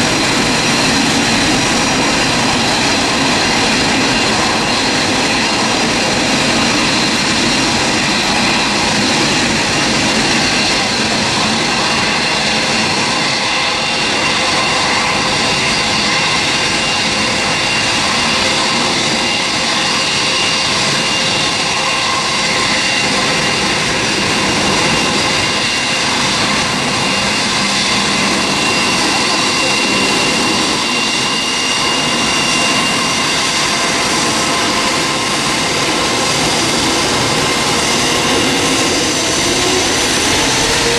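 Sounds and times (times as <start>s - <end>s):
jet engines running at low power: 0.0s - 40.9s.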